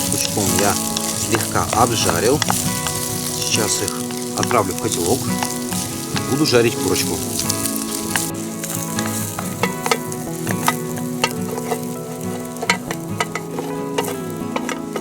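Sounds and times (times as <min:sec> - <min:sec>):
metal utensil scraping a pan: 0:00.0 - 0:15.0
vegetables sizzling in oil: 0:00.0 - 0:15.0.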